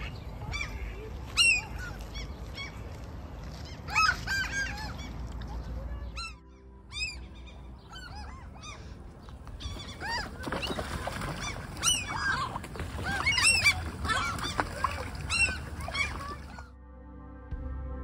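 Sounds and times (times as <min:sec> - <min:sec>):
gulls calling: 0:00.0 - 0:16.7.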